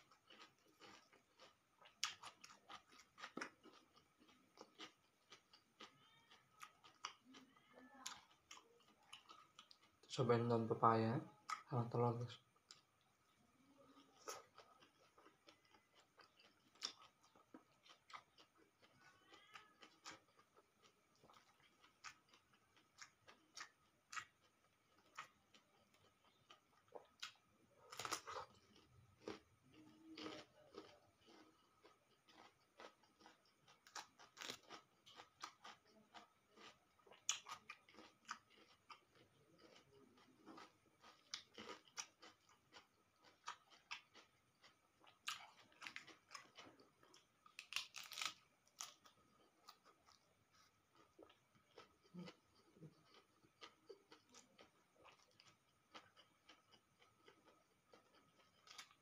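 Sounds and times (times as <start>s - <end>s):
person chewing food: 0.0s - 59.0s
mouth clicks and crunches: 0.1s - 10.1s, 13.9s - 59.0s.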